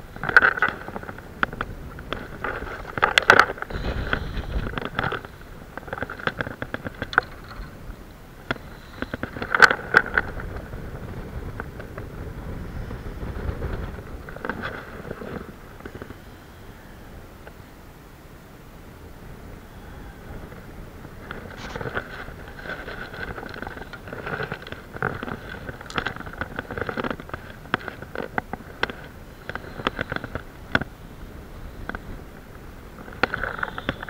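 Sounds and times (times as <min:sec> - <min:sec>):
sharp clicks and rattles: 0:00.0 - 0:16.4, 0:20.2 - 0:34.0
wind rumbling on microphone: 0:00.0 - 0:34.0.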